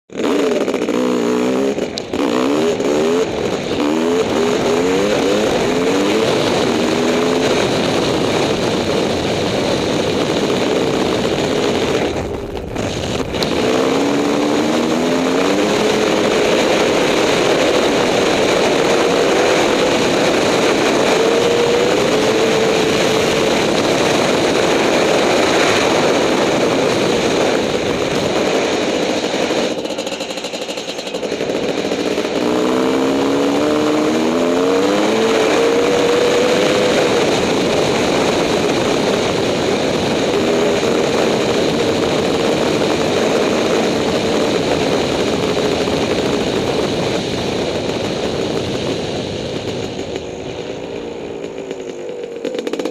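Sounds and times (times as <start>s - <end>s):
dirt bike engine accelerating: 0.1s - 52.9s.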